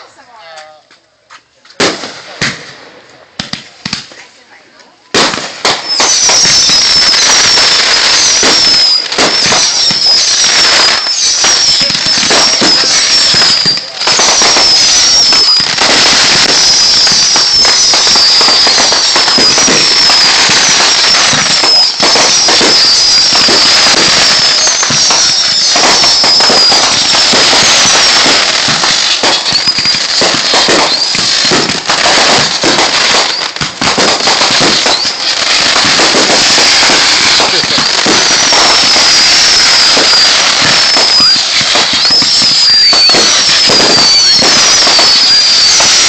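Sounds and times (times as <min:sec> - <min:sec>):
fireworks crackling and popping: 0:00.0 - 0:46.0
firework bangs: 0:01.8 - 0:46.0
falling firework whistle: 0:05.2 - 0:46.0.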